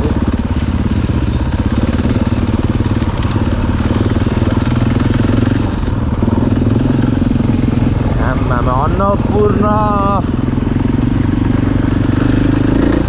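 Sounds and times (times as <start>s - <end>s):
dirt bike engine at low revs: 0.0s - 13.0s.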